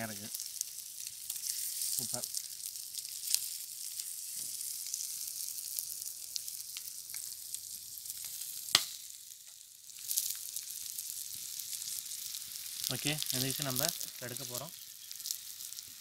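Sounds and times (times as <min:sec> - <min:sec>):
eggs sizzling in oil: 0:00.0 - 0:16.0.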